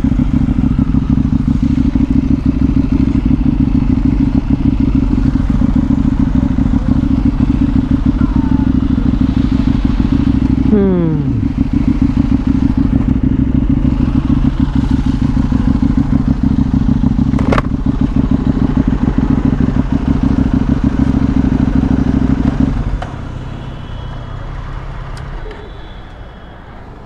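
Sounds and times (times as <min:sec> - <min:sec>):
motorbike engine running: 0:00.0 - 0:25.8.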